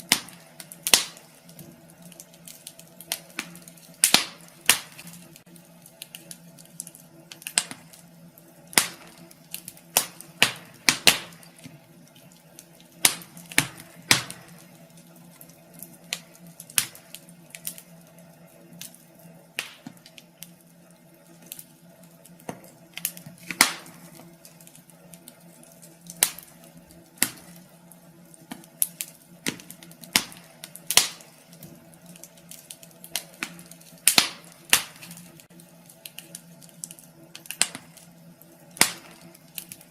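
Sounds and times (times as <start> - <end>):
steady low hum: 0.0 - 39.9
wood fire crackling: 0.0 - 39.9.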